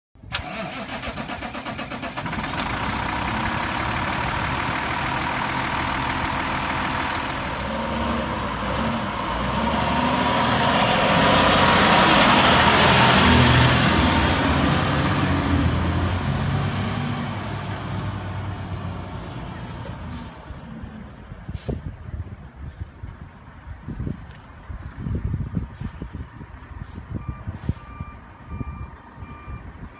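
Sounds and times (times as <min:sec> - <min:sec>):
diesel truck engine running: 0:00.2 - 0:29.9.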